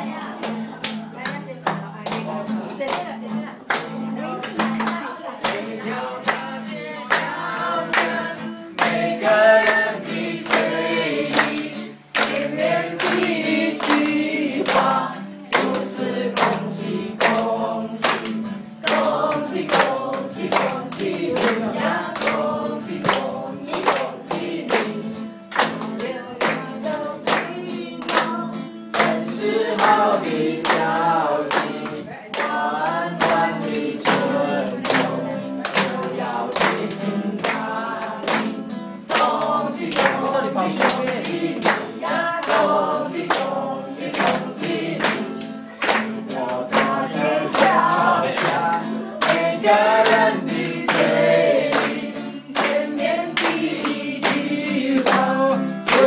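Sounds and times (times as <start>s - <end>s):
group of people singing: 0.0s - 56.0s
hands clapping on a beat: 0.0s - 56.0s.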